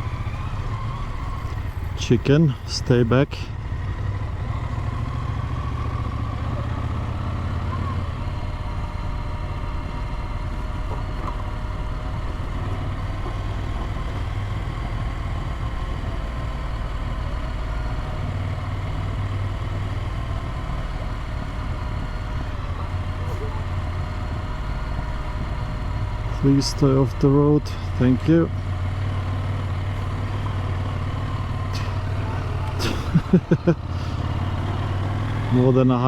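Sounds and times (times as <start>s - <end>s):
motorcycle engine droning: 0.0s - 36.0s.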